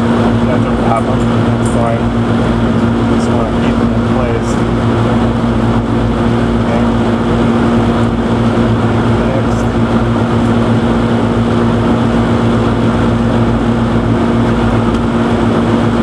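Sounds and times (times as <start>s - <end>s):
air conditioner fan blowing: 0.0s - 16.0s
low electrical hum: 0.0s - 16.0s.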